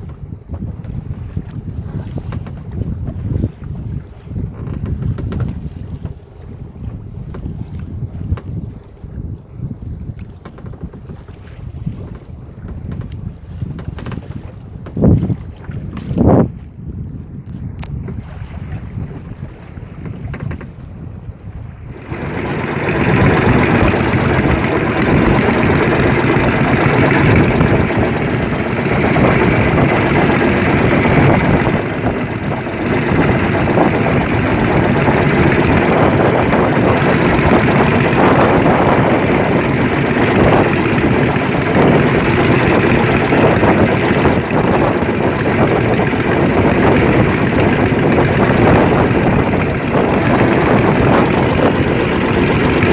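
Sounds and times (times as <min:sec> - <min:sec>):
boat engine running: 0:00.0 - 0:16.8, 0:18.8 - 0:52.9.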